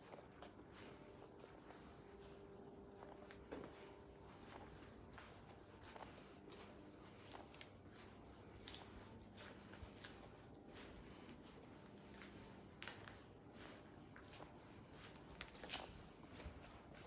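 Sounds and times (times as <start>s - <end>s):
faint room hum: 0.0s - 17.0s
soft rustles and clicks: 0.0s - 17.0s.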